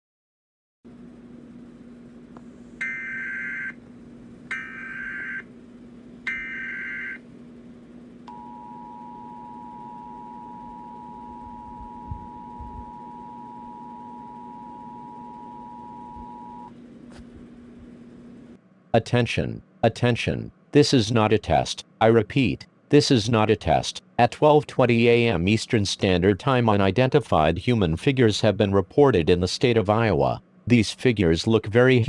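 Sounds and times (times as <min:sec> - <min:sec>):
low steady hum: 0:00.9 - 0:32.0.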